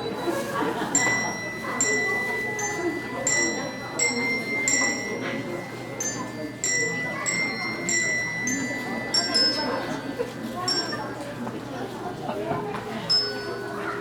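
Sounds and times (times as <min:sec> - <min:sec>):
handbells ringing a slow tune: 0:00.0 - 0:11.6, 0:13.0 - 0:14.0.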